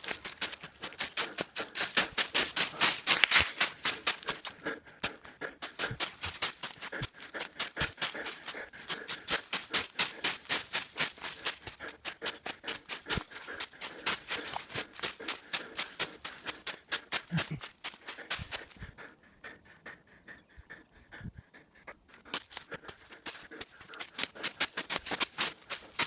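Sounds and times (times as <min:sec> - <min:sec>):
running footsteps on gravel: 0:00.0 - 0:19.0, 0:22.3 - 0:26.0.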